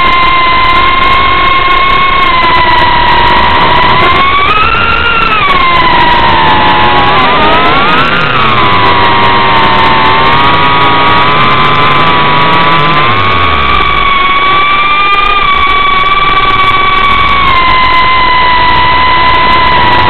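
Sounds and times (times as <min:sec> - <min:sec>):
drone motors and propellers whining: 0:00.0 - 0:20.0.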